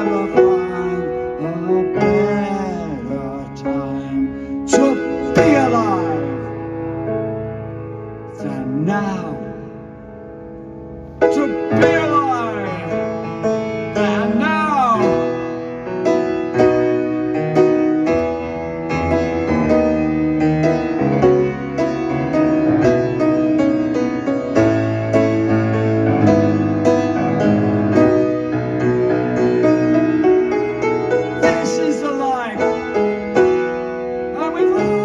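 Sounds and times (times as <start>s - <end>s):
piano chords: 0.0s - 35.0s.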